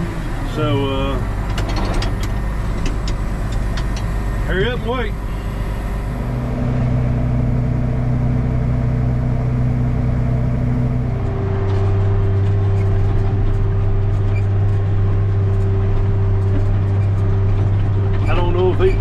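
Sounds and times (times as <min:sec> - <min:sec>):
large diesel engine running: 0:00.0 - 0:19.0.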